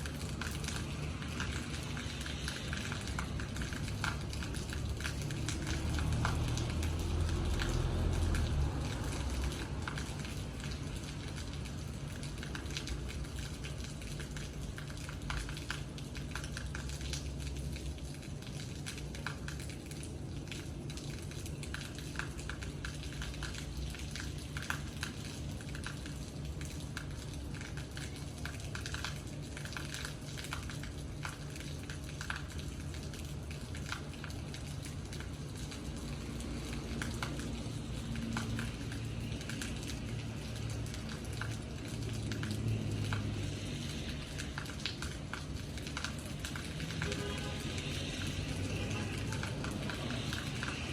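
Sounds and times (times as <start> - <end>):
raindrops tapping on hard surface: 0.0 - 50.9.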